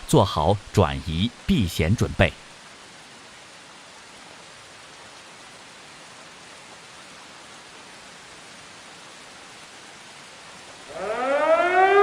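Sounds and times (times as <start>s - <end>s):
heavy rain hiss: 0.0s - 12.0s.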